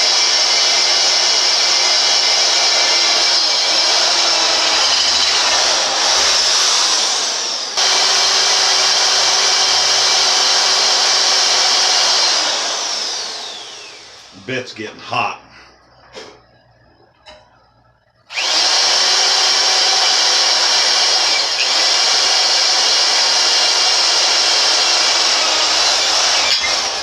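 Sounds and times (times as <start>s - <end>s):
electric drill boring metal: 0.0s - 14.3s, 18.3s - 27.0s.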